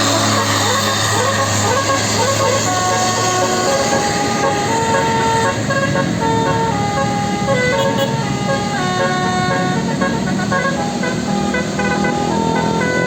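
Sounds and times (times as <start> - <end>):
bus musical horn playing a tune: 0.0 - 13.0
vehicle rumble: 0.0 - 13.0.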